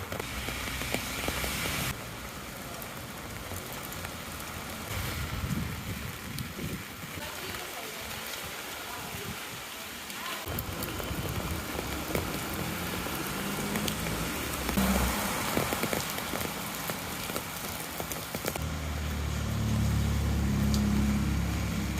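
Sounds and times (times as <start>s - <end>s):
raindrops ticking: 0.0s - 21.9s.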